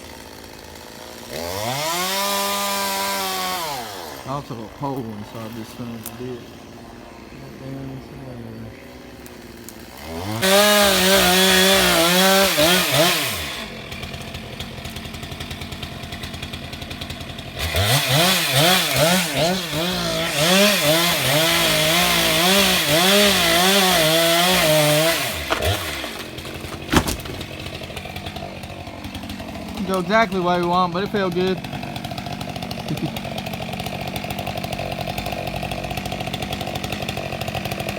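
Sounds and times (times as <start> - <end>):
chainsaw revving and idling: 0.0 - 37.9.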